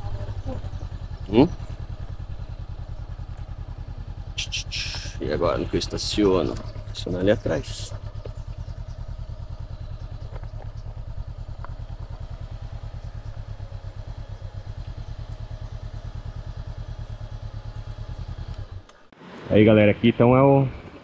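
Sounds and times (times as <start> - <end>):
motorcycle engine idling: 0.0 - 19.2.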